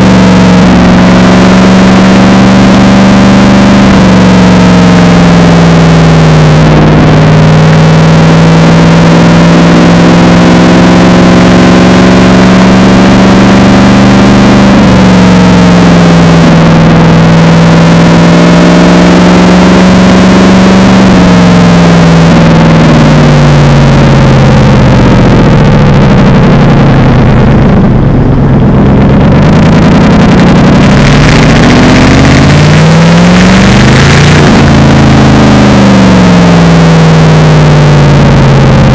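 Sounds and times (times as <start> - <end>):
supercharged car engine: 0.0 - 38.9.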